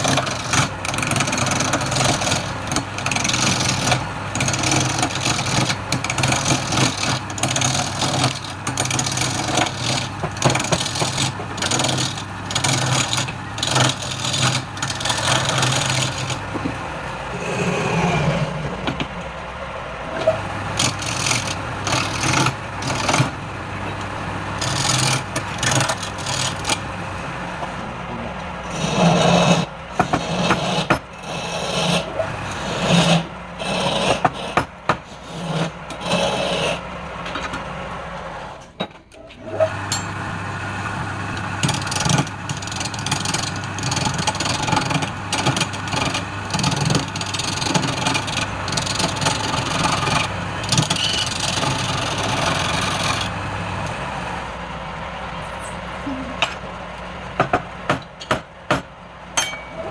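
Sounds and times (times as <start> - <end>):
turning tool scraping wood: 0.0 - 19.1, 20.1 - 27.9, 28.7 - 37.6, 39.4 - 54.6
wood lathe humming: 0.0 - 38.6, 39.4 - 59.2.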